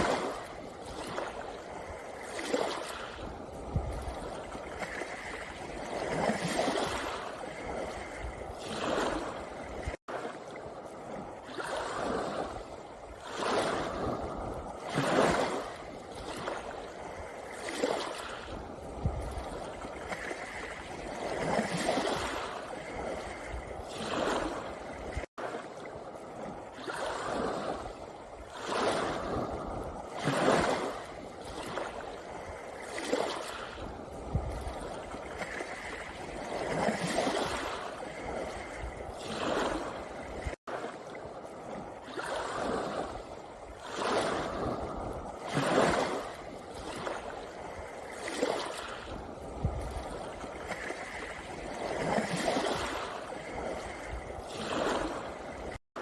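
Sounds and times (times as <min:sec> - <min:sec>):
small waves on pebble beach: 0:00.0 - 0:56.0.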